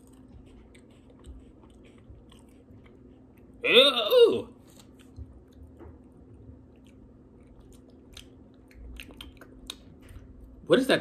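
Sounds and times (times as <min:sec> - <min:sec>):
person chewing crunchy wafer: 0:00.0 - 0:10.4.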